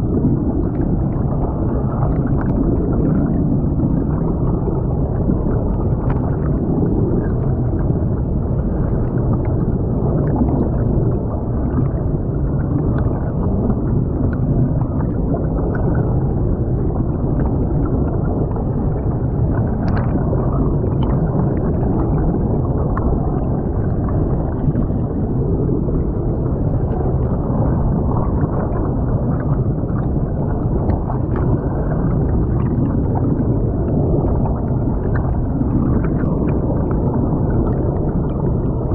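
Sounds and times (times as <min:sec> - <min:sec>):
air bubbles streaming: 0:00.0 - 0:38.9
muffled underwater water rushing: 0:00.0 - 0:38.9.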